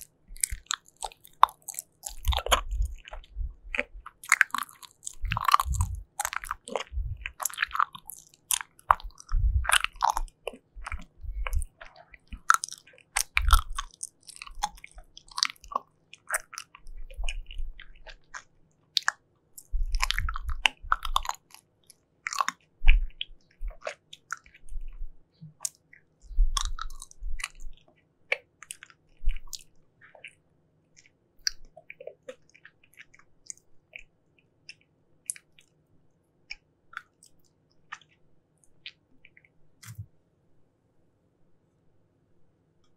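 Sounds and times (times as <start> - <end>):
chewing gummy jelly: 0.0 - 35.8, 36.4 - 40.0.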